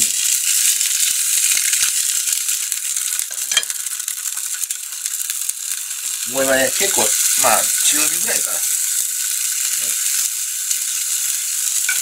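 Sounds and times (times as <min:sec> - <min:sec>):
sausage sizzling in a pan: 0:00.0 - 0:12.0.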